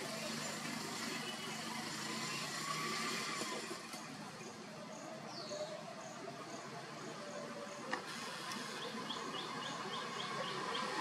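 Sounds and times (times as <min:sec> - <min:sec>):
vehicle engines running low: 0:00.0 - 0:11.0.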